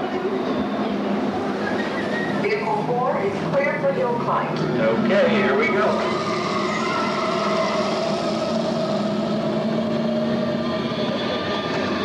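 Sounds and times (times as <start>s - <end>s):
ride vehicle mechanical hum: 0.0s - 12.0s.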